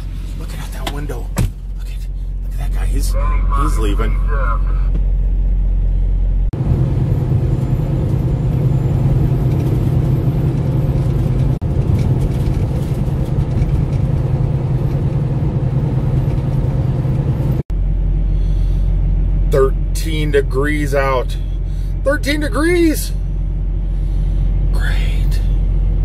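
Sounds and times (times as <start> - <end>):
diesel engine idling: 0.0 - 12.0, 12.6 - 26.0
engine and road rumble: 0.0 - 26.0.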